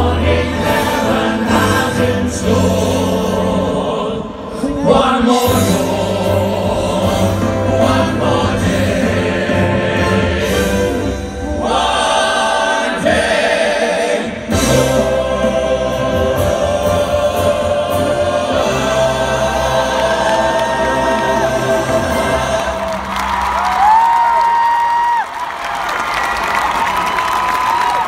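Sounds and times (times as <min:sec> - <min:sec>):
male vocal group singing in harmony: 0:00.0 - 0:23.4.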